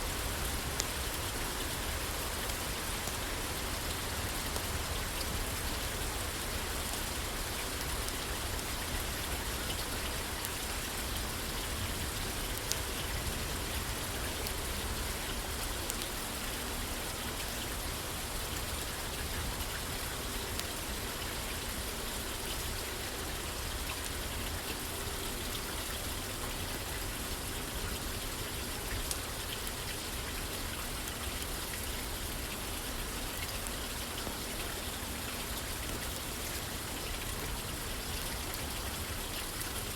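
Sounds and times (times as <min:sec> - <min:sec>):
rain pattering on a roof: 0:00.0 - 0:39.9.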